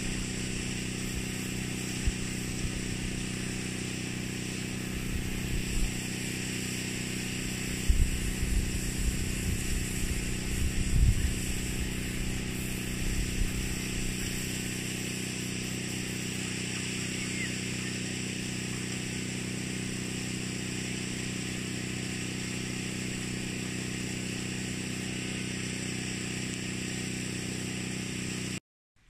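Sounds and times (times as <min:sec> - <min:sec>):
small engine running: 0:00.0 - 0:28.6
water spray hissing: 0:00.0 - 0:28.6.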